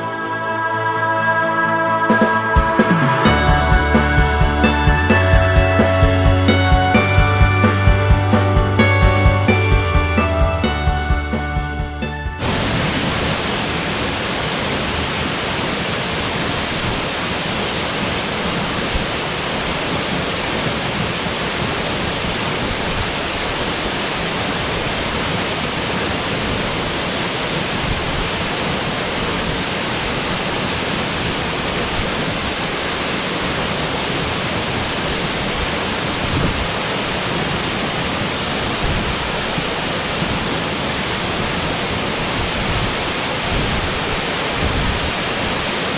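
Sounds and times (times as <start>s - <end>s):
waterfall rushing: 0.0s - 10.9s, 12.3s - 45.9s.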